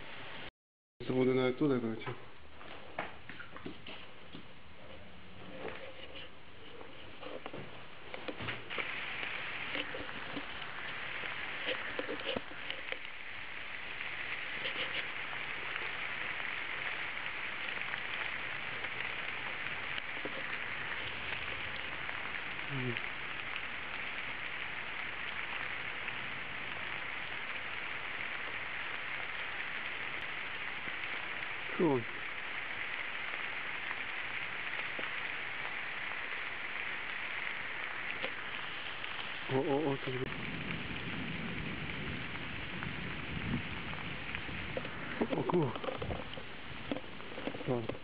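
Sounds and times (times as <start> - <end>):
heavy rain hissing: 0.0 - 0.5, 4.1 - 48.0
rain drops ticking: 0.0 - 48.0.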